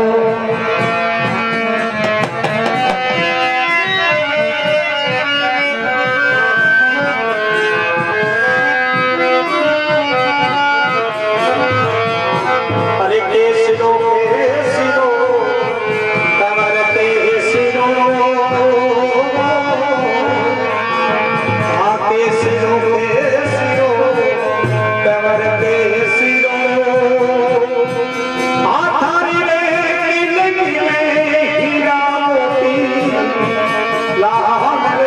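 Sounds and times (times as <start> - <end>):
man singing: 0.0 - 7.2, 8.2 - 35.0
dholak drum beating: 0.0 - 35.0
harmonium melody: 0.0 - 35.0.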